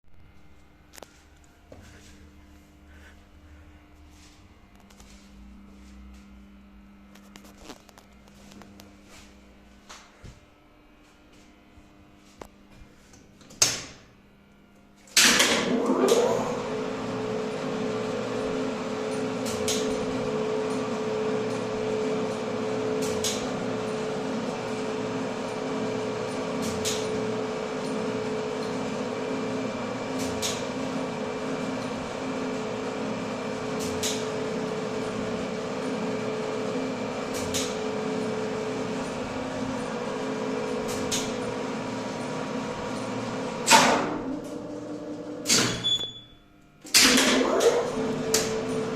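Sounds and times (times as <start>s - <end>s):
electric motor hum and whine: 0.1s - 48.9s.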